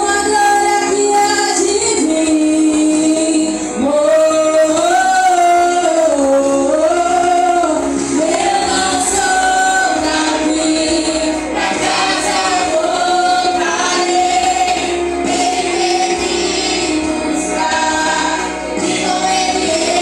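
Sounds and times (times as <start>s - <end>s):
group singing a gospel song: 0.0s - 20.0s.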